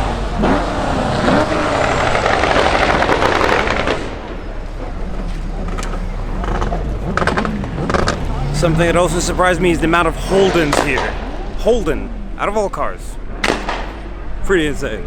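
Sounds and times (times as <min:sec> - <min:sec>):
exhaust pops: 0:00.0 - 0:14.7
car engine and exhaust running: 0:00.0 - 0:15.0.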